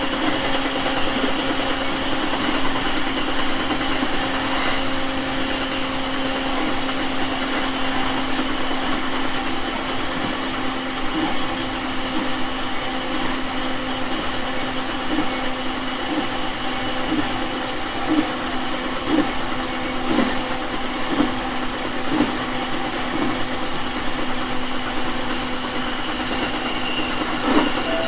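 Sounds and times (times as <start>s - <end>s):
train running noise: 0.0s - 28.0s.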